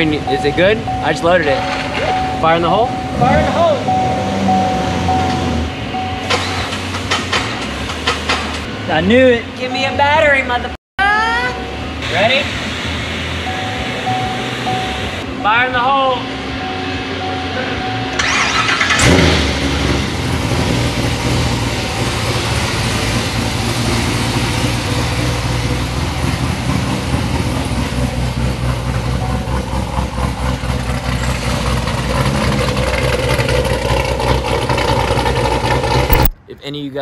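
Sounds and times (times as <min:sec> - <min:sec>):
car engine starting and idling: 0:00.0 - 0:37.0.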